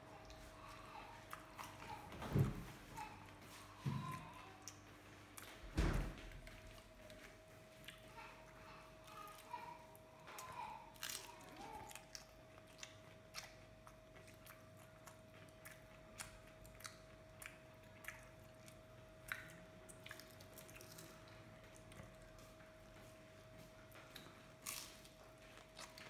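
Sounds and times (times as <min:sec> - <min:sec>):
faint steady hum: 0:00.0 - 0:26.0
chewing and crunching: 0:00.1 - 0:26.0.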